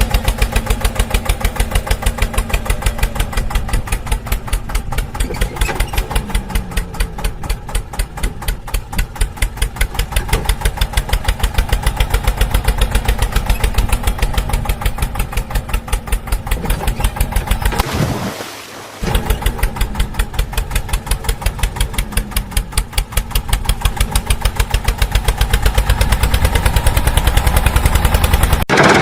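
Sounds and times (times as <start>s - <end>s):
engine idling: 0.0s - 17.8s, 19.0s - 29.0s.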